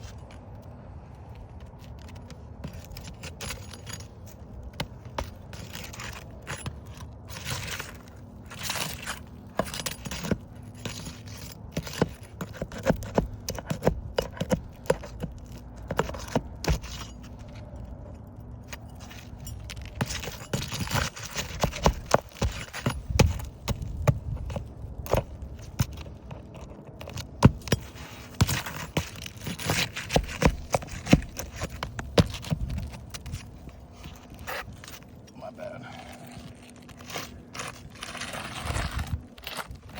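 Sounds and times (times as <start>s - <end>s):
metallic clinking and scraping: 1.8s - 13.7s, 14.3s - 35.4s.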